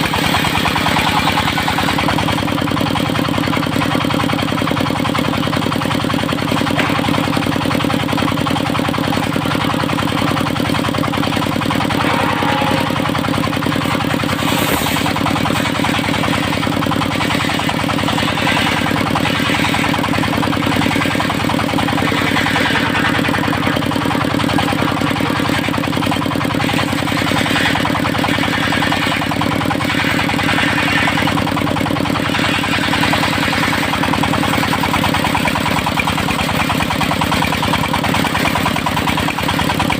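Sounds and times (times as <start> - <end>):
saw blade cutting timber: 0.0 - 39.9
sawmill engine running: 0.0 - 39.9.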